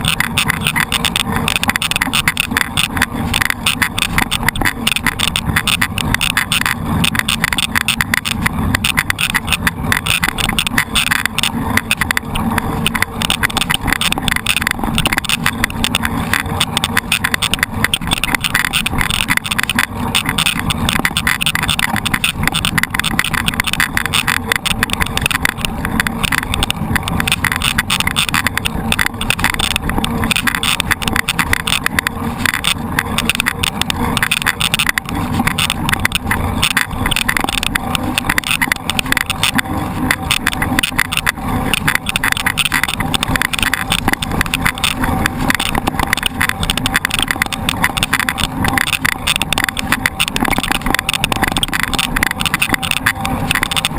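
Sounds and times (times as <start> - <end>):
bike rattling: 0.0 - 53.9.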